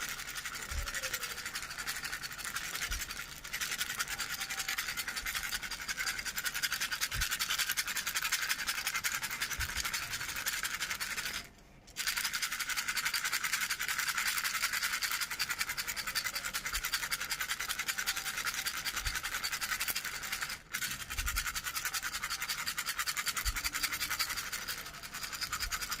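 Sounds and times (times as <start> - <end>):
rattle toy shaken: 0.0 - 26.0.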